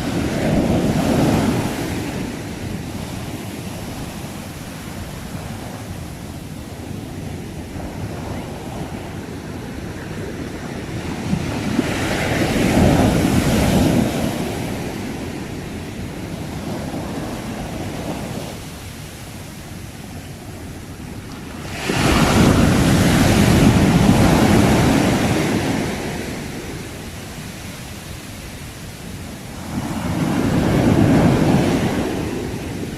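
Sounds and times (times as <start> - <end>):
sea waves breaking on shore: 0.0 - 32.9.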